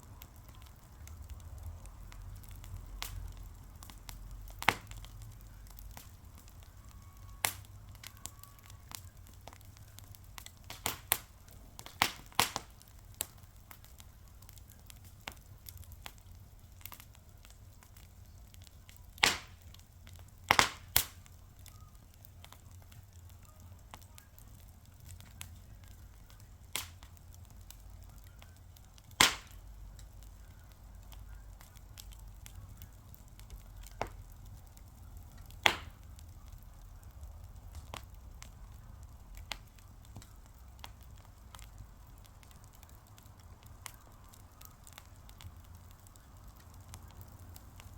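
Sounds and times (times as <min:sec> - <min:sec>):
faint low rumble: 0:00.0 - 0:47.9
fire crackling and popping: 0:00.0 - 0:47.9.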